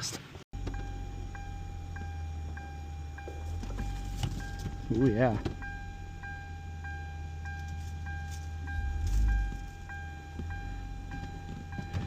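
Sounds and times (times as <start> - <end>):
car engine idling: 0.5 - 12.0
faint pulsing high tone: 0.6 - 12.0.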